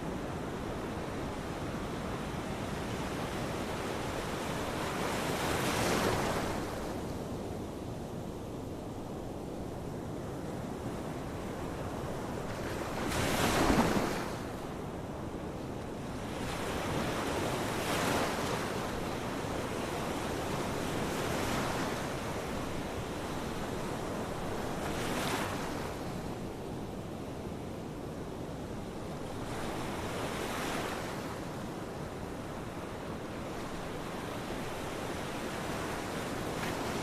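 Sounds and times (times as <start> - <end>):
ocean waves breaking on shore: 0.1 - 7.3, 10.6 - 15.2, 15.9 - 37.0.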